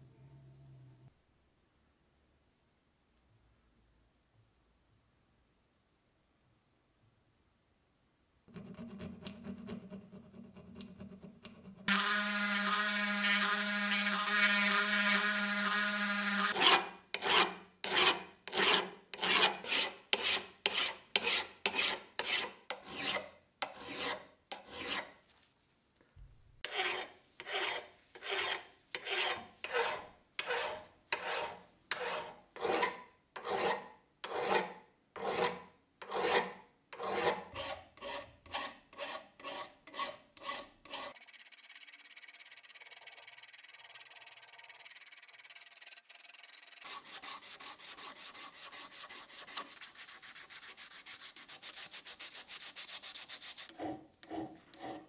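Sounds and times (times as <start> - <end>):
file scraping on steel: 8.5 - 25.2, 26.6 - 55.0.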